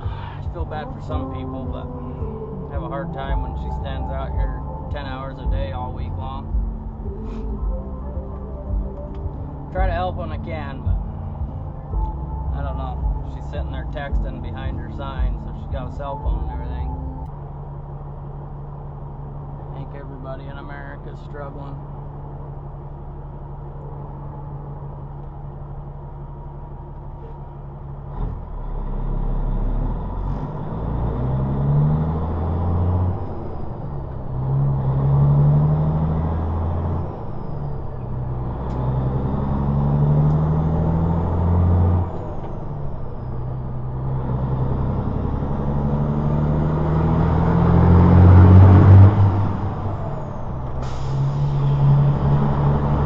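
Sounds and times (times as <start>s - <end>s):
truck diesel engine accelerating: 0.0s - 53.0s.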